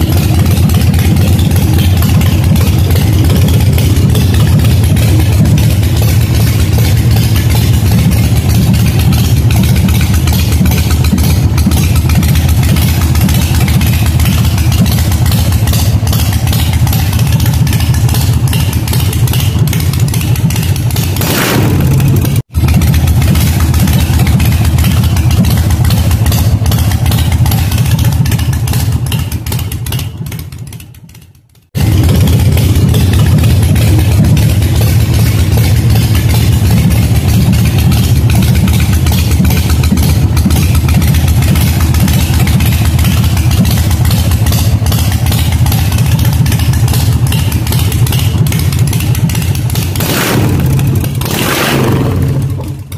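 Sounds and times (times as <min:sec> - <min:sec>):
motorcycle engine idling: 0:00.0 - 0:52.9.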